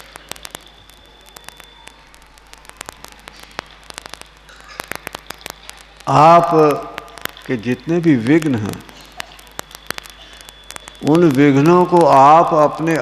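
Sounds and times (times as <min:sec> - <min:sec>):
low hum and hiss: 0:00.0 - 0:13.0
sharp clicks and crackles: 0:00.0 - 0:13.0.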